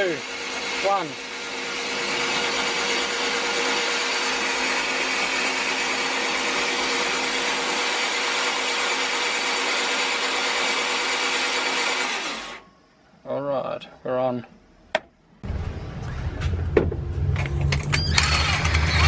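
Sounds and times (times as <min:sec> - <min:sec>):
four-cylinder engine running: 0:00.0 - 0:12.6, 0:15.4 - 0:19.0.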